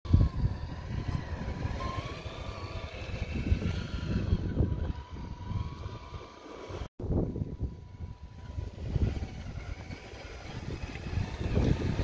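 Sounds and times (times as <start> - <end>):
toy car electric motor whining: 0.1 - 12.0.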